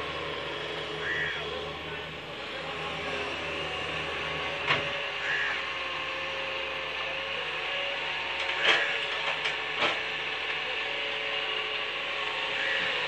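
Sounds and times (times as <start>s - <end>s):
crane engine running: 0.0s - 13.0s.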